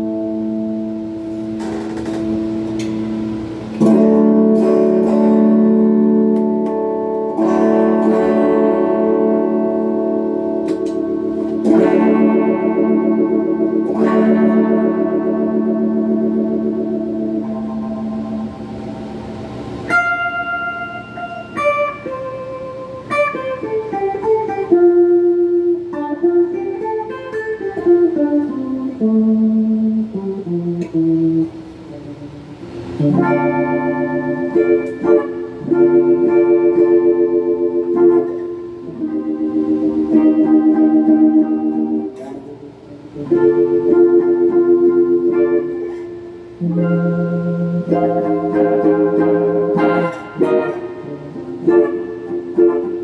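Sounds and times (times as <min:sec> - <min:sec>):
electric guitar chords ringing: 0:00.0 - 0:53.0.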